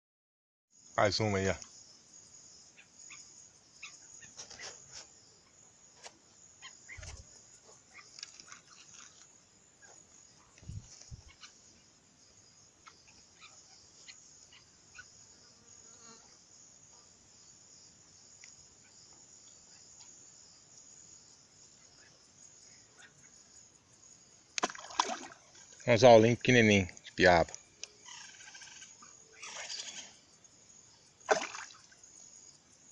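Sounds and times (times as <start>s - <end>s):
insects chorus high-pitched: 0.7s - 32.9s.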